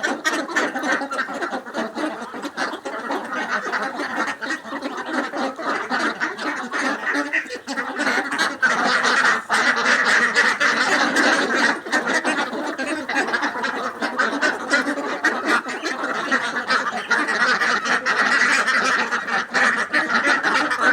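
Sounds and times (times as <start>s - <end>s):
ducks quacking: 0.0s - 20.9s.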